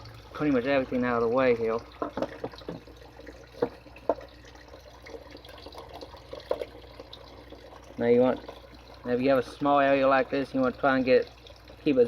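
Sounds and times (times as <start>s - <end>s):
water trickling in pipes: 0.0s - 12.0s.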